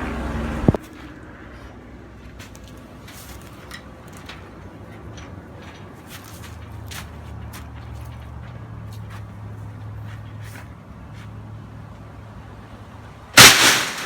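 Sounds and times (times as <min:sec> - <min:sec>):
low engine hum: 0:00.0 - 0:13.3.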